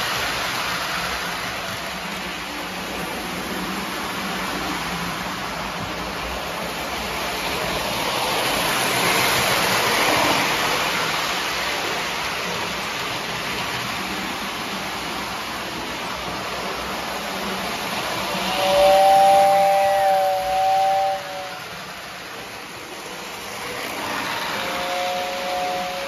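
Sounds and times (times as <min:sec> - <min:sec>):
model train rumbling on track: 0:00.0 - 0:26.0.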